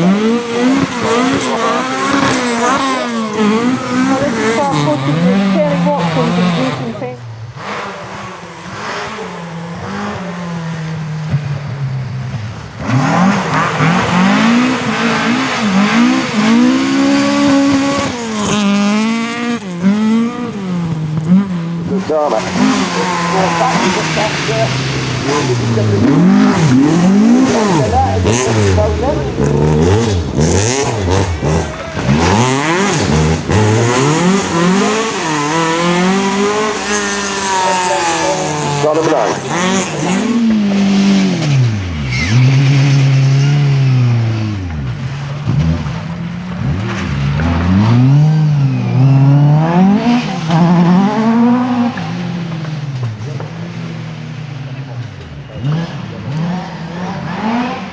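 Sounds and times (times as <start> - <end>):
rally car engine revving: 0.0 - 57.9.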